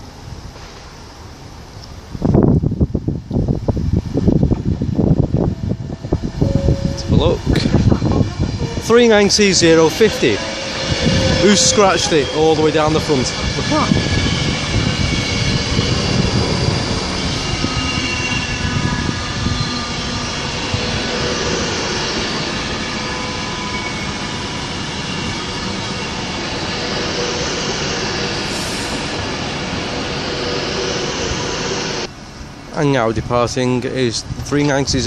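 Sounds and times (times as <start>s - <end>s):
electric train humming and whining: 0.0s - 33.4s.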